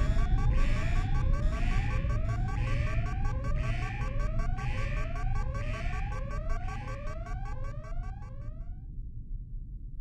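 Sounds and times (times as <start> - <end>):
electronic alarm rising tones: 0.0 - 8.8
steady low rumble: 0.0 - 10.0.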